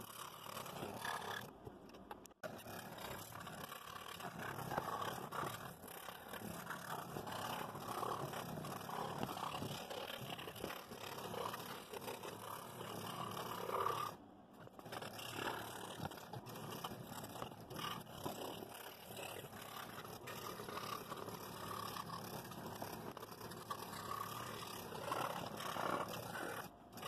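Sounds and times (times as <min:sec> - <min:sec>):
scroll saw cutting wood: 0:00.0 - 0:01.6, 0:02.4 - 0:27.0.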